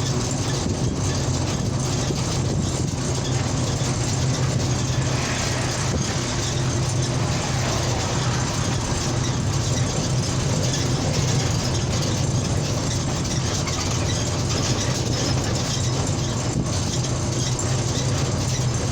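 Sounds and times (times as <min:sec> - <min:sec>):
car engine hum: 0:00.0 - 0:18.9
tyre and road noise: 0:00.0 - 0:18.9.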